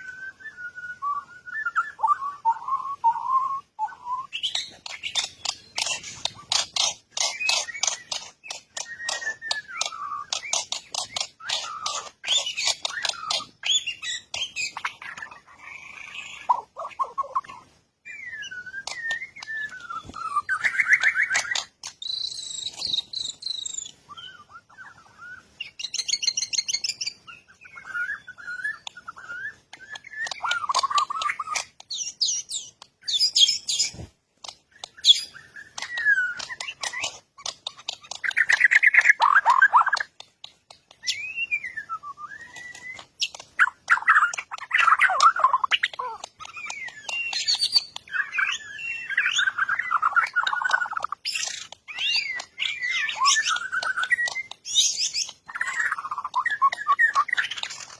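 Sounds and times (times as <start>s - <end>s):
birdsong whistles and trills: 0.0s - 57.9s.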